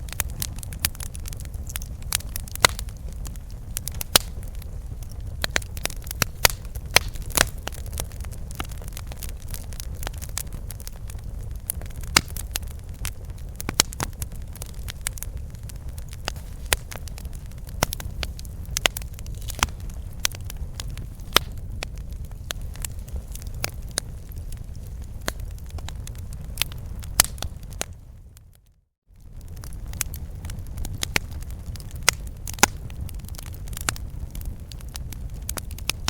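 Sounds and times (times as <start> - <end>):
campfire wood crackling and popping: 0.0 - 36.0
low rumble of flames: 0.0 - 36.0.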